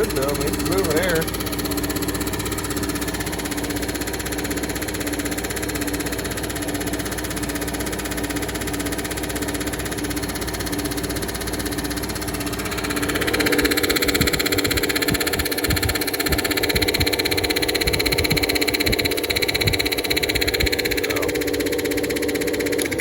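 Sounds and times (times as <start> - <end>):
air conditioner motor hum: 0.0 - 23.0
fan air rushing: 0.0 - 23.0.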